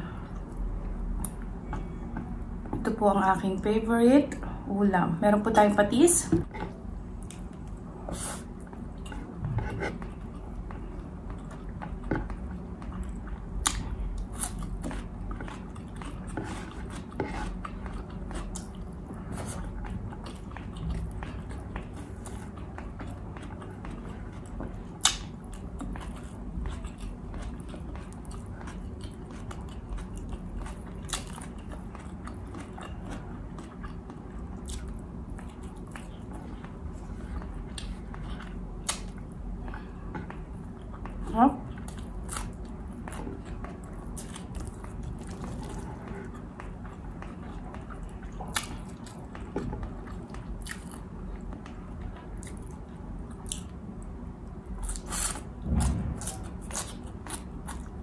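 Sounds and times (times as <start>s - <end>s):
person chewing food: 6.5s - 58.0s.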